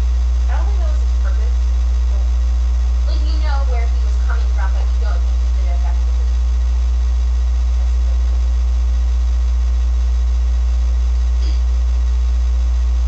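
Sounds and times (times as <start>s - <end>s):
loud steady low hum: 0.0s - 13.0s.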